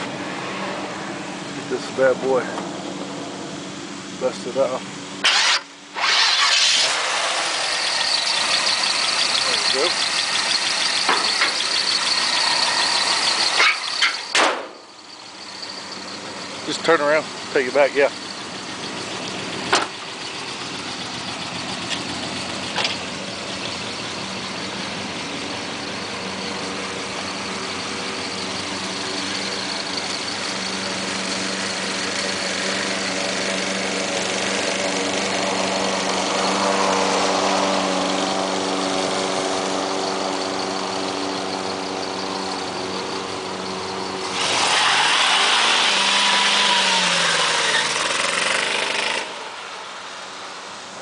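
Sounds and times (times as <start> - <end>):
car engine idling: 7.2 - 51.0.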